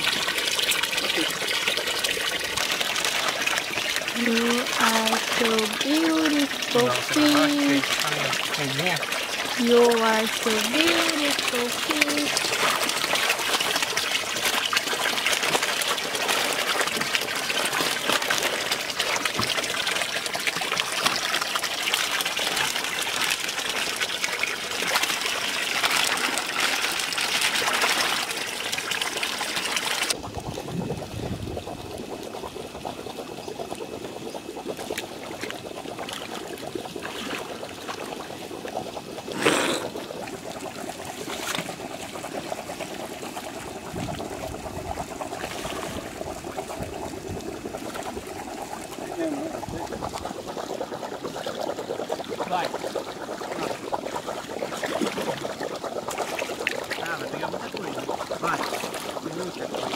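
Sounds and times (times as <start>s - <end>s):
running water: 0.0s - 59.9s
water pouring and splashing: 0.0s - 59.9s.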